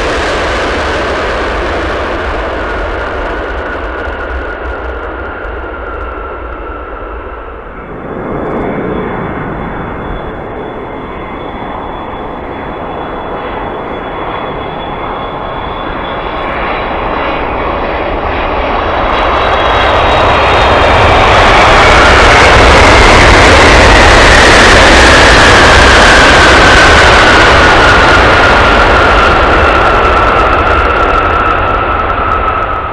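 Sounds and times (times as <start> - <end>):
engine whine falling in pitch: 0.0 - 32.9
jet engines landing: 0.0 - 32.9.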